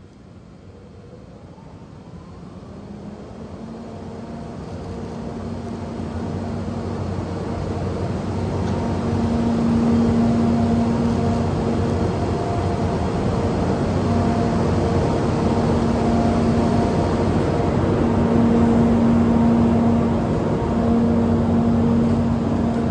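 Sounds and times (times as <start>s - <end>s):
electric locomotive rumble: 0.4s - 22.9s.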